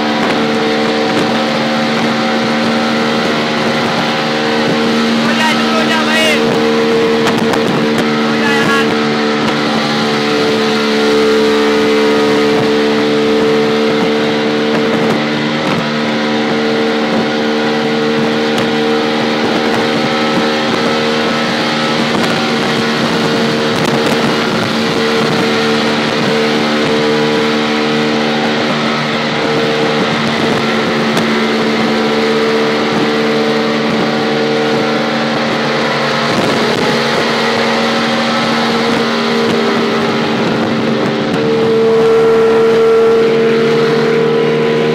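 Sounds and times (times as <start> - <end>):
auto rickshaw engine droning: 0.0 - 44.9.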